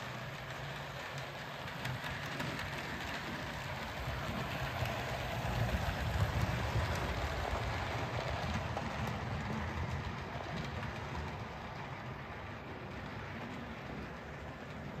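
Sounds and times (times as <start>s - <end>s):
hiss of wheels on rail: 0.0s - 15.0s
model train rumbling on track: 0.0s - 15.0s.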